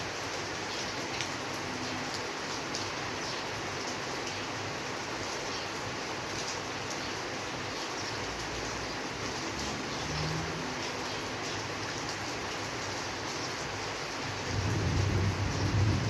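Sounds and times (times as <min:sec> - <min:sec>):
steady rainfall hiss: 0:00.0 - 0:16.0
raindrops ticking: 0:00.3 - 0:16.0.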